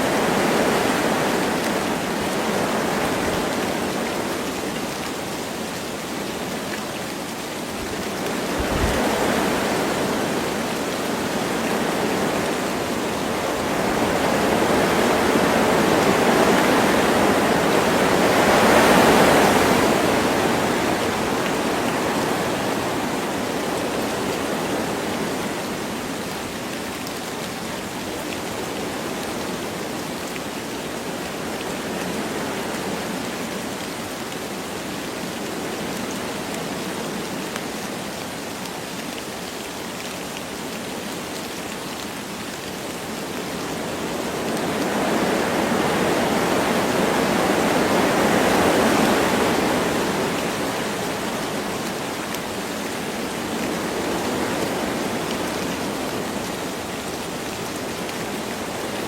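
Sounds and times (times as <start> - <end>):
light rain: 0.0 - 59.0
wind rushing through trees: 0.0 - 59.0.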